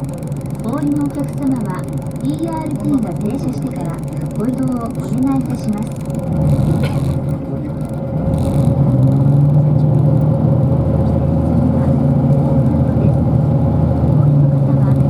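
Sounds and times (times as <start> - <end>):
bus engine drone: 0.0 - 15.0
thin steady whine: 0.0 - 15.0.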